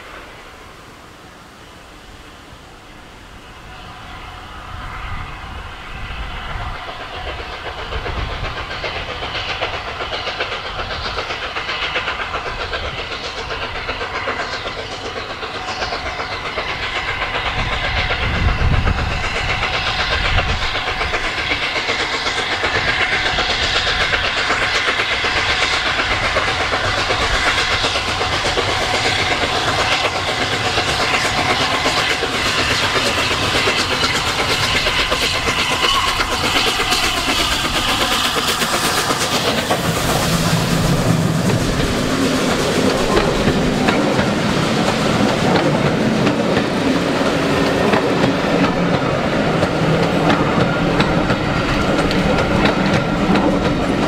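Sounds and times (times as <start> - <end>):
steam locomotive exhaust beat: 0.0 - 54.0.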